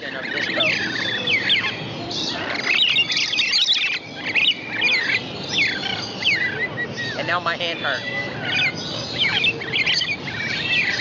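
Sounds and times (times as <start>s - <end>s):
parrots chirping: 0.0s - 11.0s.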